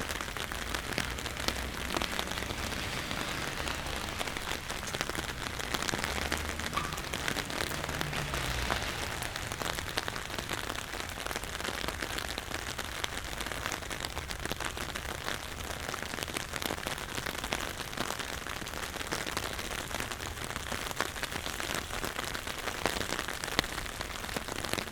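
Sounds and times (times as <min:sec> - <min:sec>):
rain on hard surfaces: 0:00.0 - 0:24.9.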